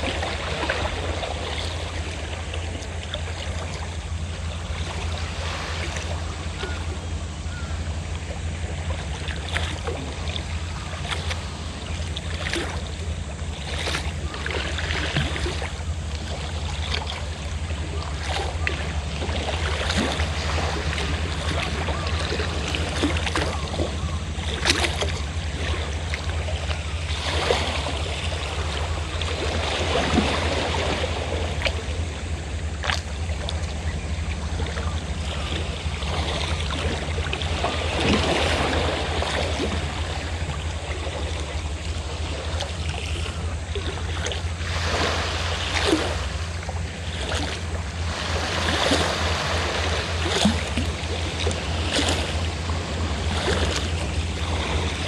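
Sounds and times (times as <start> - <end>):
boat engine humming: 0.0 - 55.0
sea waves washing in: 0.0 - 55.0.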